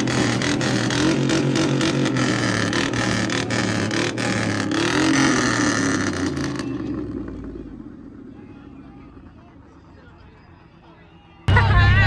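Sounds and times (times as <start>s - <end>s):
vehicle engine running loudly: 0.0s - 10.2s, 11.5s - 12.0s.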